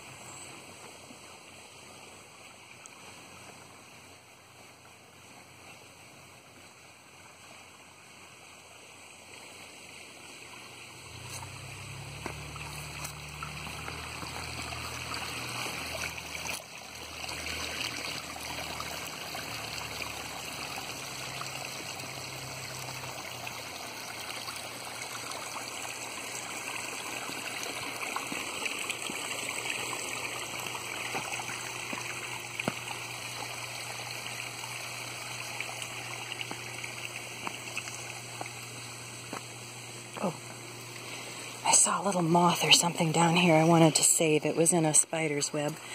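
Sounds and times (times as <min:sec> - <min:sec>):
small waterfall splashing: 0:00.7 - 0:41.6.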